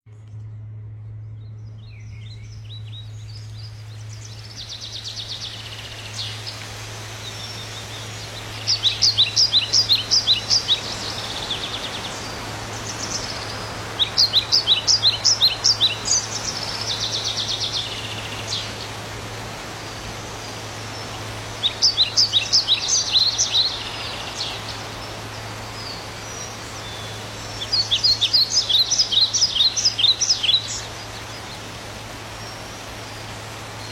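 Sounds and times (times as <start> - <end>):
steady low hum: 0.1 - 28.3
faint outdoor background noise: 0.1 - 33.9
songbird chirping: 1.0 - 33.9.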